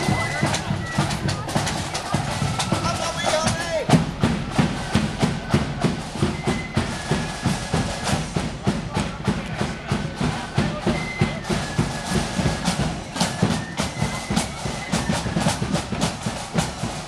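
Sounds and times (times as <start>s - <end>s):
marching band drums: 0.0s - 17.0s.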